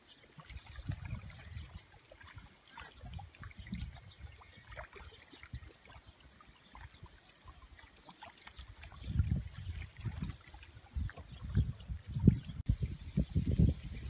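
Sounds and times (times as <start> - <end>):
small waves lapping: 0.0 - 12.7.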